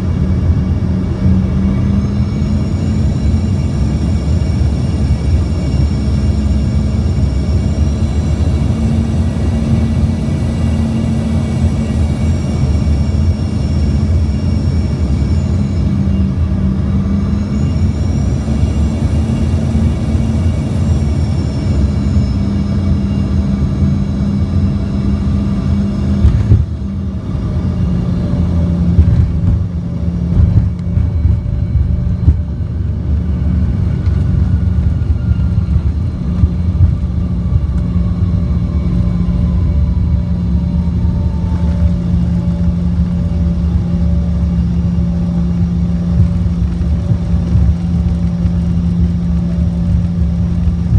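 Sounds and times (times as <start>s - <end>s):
airliner turbine engines whining: 0.0s - 50.9s
heavy rumble: 0.0s - 50.9s.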